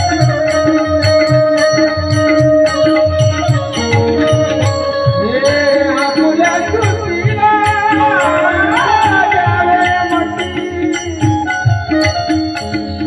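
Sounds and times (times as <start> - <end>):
person singing: 0.0 - 11.5
held notes: 0.0 - 13.0.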